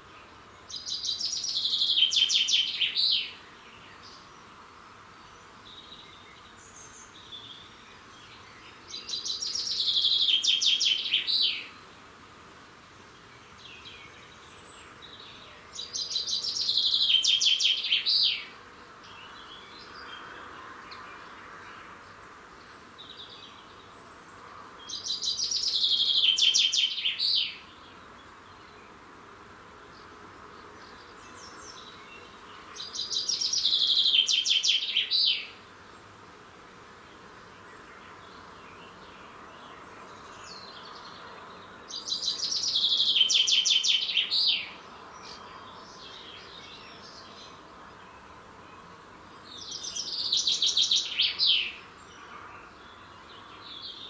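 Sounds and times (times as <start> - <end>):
songbird singing rapid notes: 0.7 - 4.3, 5.6 - 11.8, 13.2 - 20.3, 23.0 - 28.8, 30.8 - 35.6, 37.7 - 54.0.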